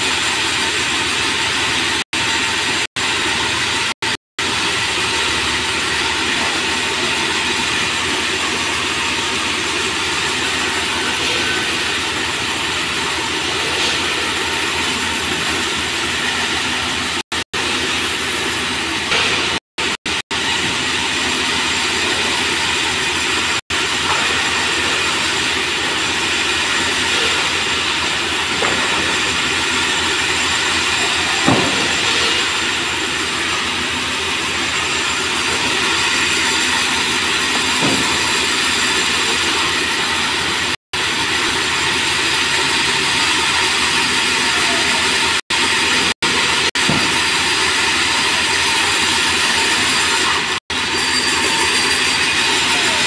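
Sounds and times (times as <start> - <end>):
band saw cutting wood: 0.0 - 53.0.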